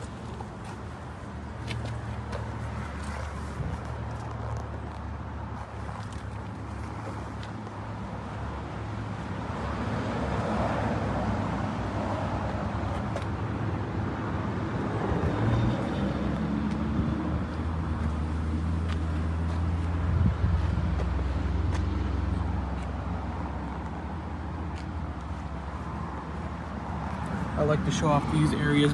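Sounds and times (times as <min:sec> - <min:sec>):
low engine hum: 0:00.0 - 0:28.9.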